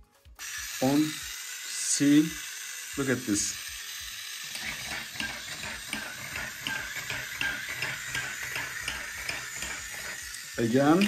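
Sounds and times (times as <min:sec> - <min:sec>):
small electric motor whirring: 0:00.3 - 0:11.0
toy mechanism clicking: 0:00.4 - 0:11.0.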